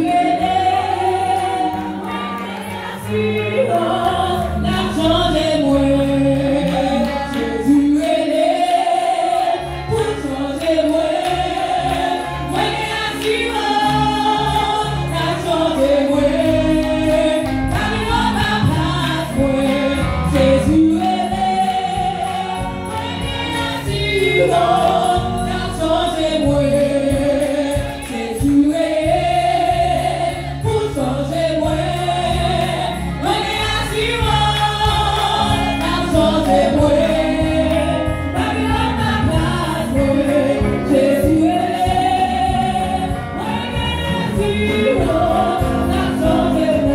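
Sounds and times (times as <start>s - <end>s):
women singing gospel song: 0.0s - 46.9s.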